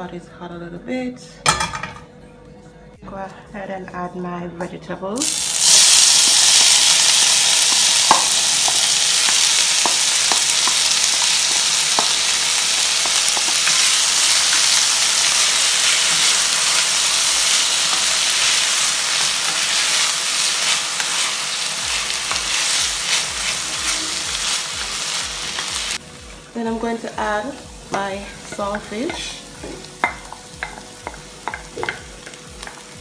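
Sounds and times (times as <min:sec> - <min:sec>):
vegetables sizzling in oil: 0:05.2 - 0:33.0.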